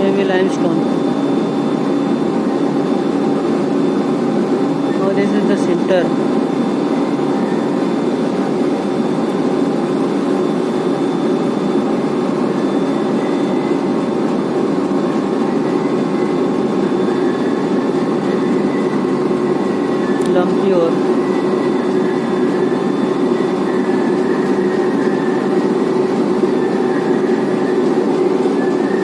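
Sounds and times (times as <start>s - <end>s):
conveyor belt machine noise: 0.0s - 29.0s.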